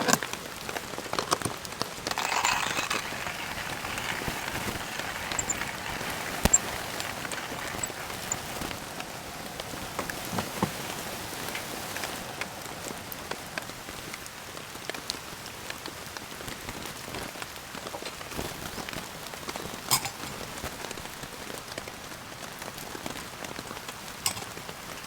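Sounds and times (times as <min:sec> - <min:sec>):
steady rain falling: 0:00.1 - 0:25.0
raindrops ticking on a surface: 0:00.2 - 0:25.0.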